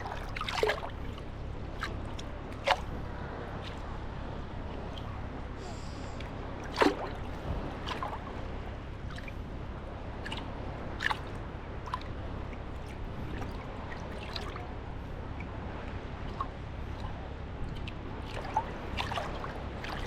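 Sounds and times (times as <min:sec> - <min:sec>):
sea water lapping at shore: 0:00.0 - 0:20.0
water splashes and drips: 0:00.0 - 0:20.0.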